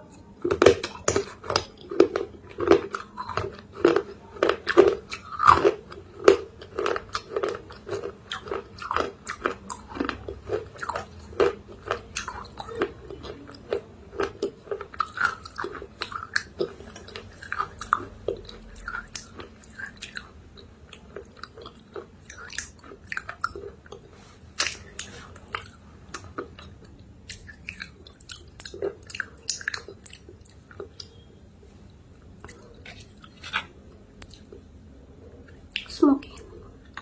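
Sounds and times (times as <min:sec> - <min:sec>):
person chewing crunchy clay: 0:00.0 - 0:31.3, 0:32.0 - 0:34.7.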